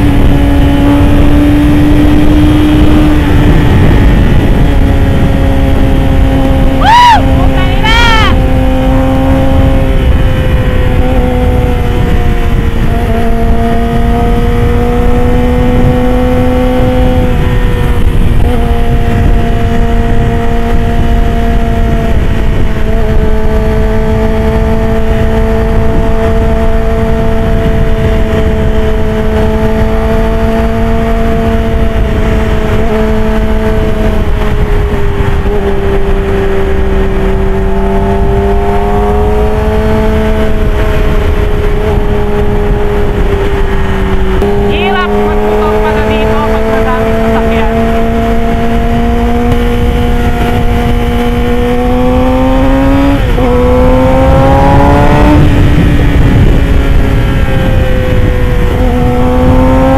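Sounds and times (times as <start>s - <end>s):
motorcycle engine at high revs: 0.0s - 59.9s
wind noise on microphone: 0.0s - 59.9s.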